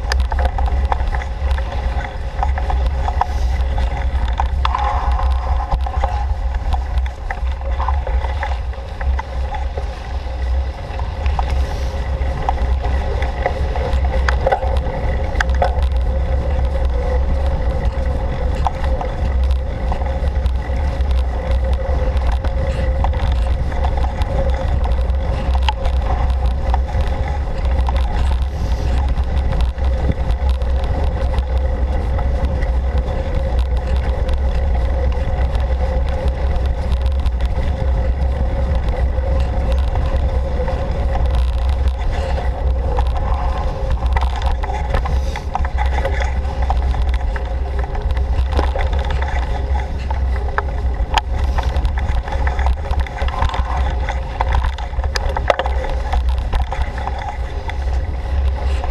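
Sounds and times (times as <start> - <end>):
bicycle tyres rolling on dirt trail: 0.0 - 58.9
clicks and rattles from bumps: 0.0 - 58.9
wind buffeting microphone: 0.0 - 58.9.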